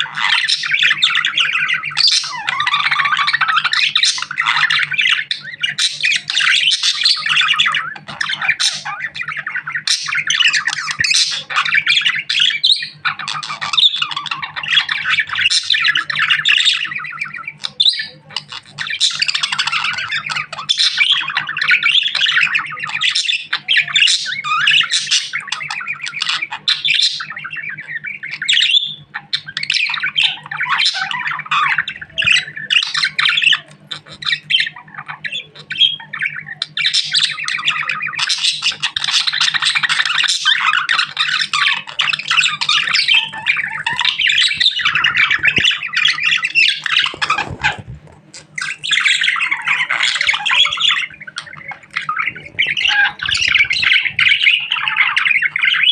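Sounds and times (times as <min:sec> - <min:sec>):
budgerigar chattering and warbling: 0:00.0 - 0:55.9.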